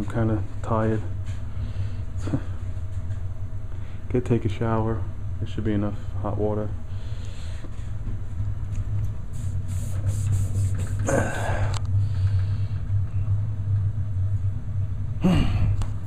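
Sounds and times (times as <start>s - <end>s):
low hum of heating equipment: 0.0s - 16.0s.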